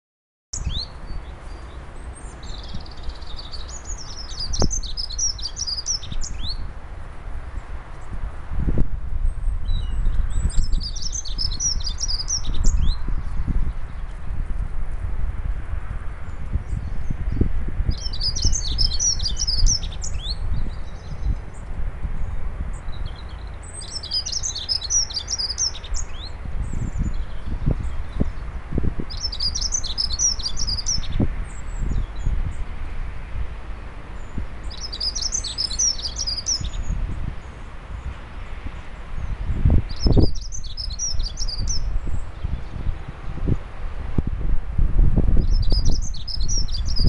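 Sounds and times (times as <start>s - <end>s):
songbird singing: 0.6s - 47.0s.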